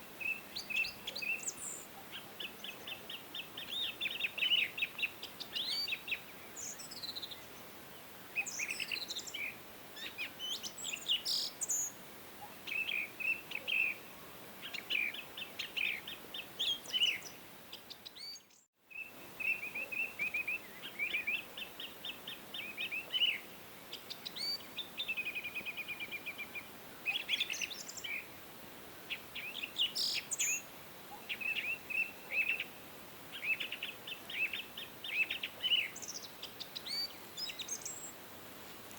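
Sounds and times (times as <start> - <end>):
faint outdoor ambience hiss: 0.0 - 38.9.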